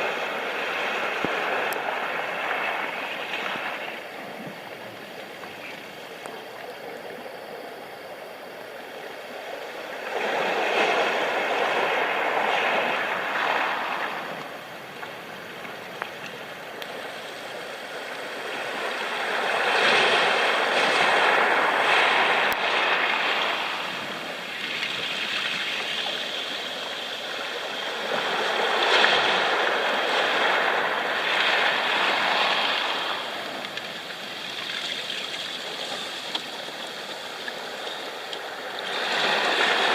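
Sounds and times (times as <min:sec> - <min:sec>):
waves breaking on pebbly shore: 0:00.0 - 0:06.2, 0:09.3 - 0:39.9.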